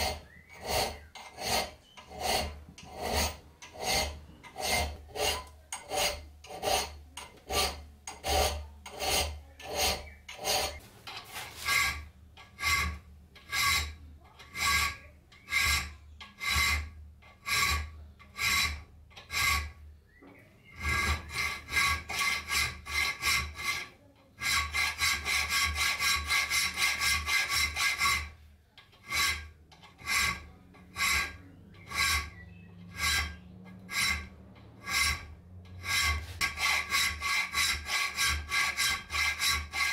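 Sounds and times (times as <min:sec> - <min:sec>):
file rasping on steel: 0:00.0 - 0:20.0, 0:20.6 - 0:39.9.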